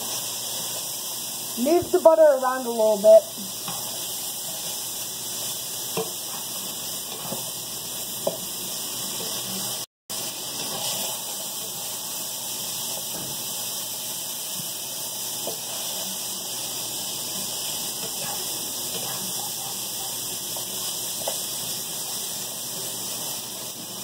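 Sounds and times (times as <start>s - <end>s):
butter sizzling in a frying pan: 0.0s - 24.0s.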